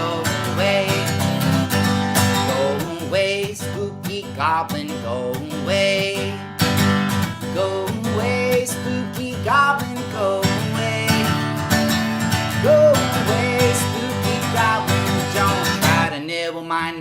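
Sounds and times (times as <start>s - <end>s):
person singing: 0.0s - 6.5s, 7.3s - 11.7s, 12.4s - 17.0s
strummed acoustic guitar: 0.0s - 17.0s.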